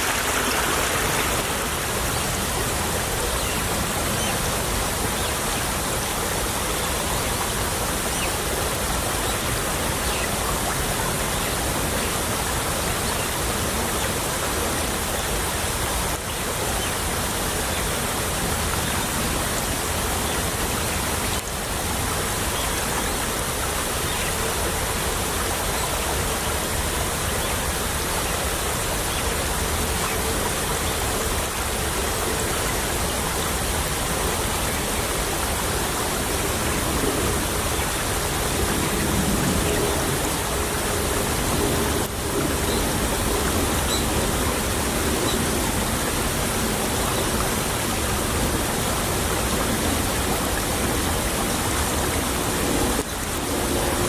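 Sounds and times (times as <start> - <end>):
shallow stream babbling: 0.0 - 54.0.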